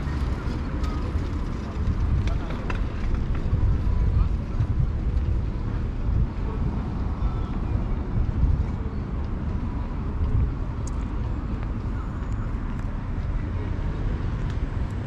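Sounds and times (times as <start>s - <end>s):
road traffic rumble: 0.0s - 15.0s
wind buffeting microphone: 0.0s - 15.0s.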